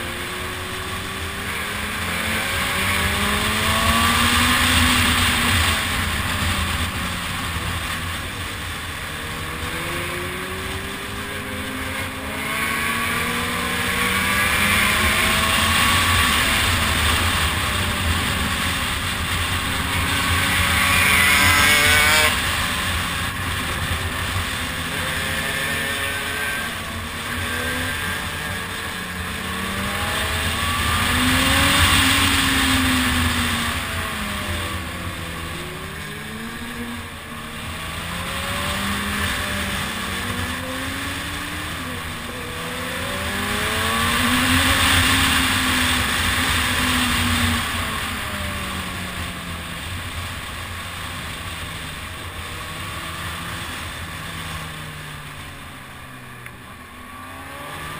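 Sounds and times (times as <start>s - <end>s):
motorcycle engine revving: 0.0s - 57.9s
wind and road noise: 0.0s - 57.9s.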